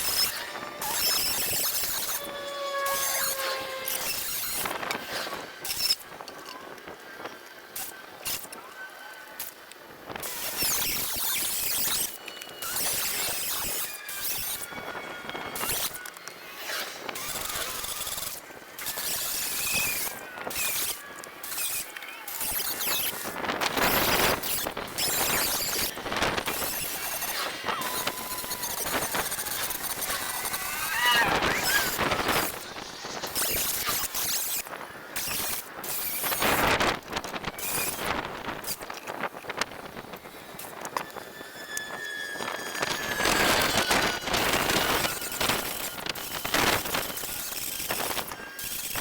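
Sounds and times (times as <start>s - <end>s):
angle grinder cutting steel: 0.0s - 6.0s, 10.2s - 36.8s, 40.0s - 49.0s.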